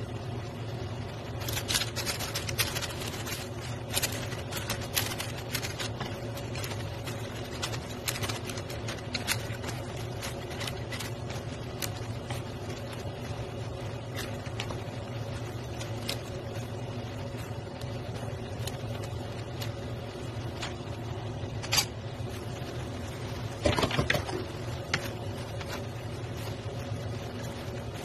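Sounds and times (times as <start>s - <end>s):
background hum: 0.0s - 28.0s.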